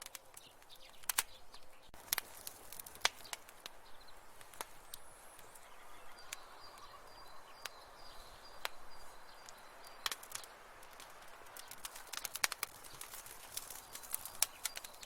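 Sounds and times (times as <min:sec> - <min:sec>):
soft hiss of flames: 0:00.0 - 0:15.0
wood fire crackling and popping: 0:00.0 - 0:15.0.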